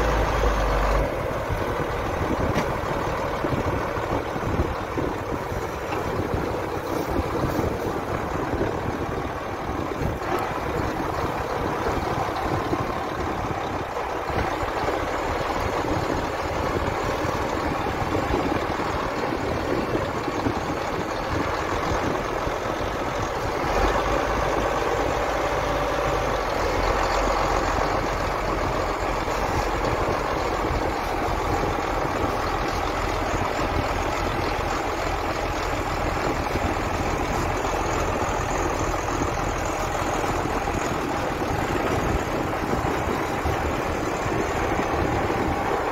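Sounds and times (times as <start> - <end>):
deep engine rumble: 0.0 - 45.9
tractor engines running: 0.0 - 45.9.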